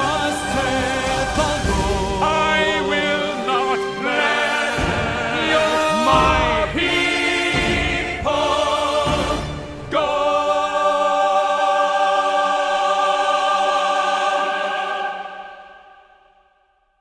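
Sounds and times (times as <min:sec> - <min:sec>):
choir and orchestra chord: 0:00.0 - 0:16.6.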